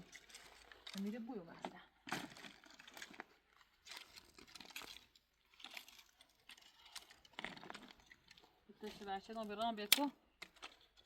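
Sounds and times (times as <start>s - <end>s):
faint clicks and rustles: 0.0s - 11.0s.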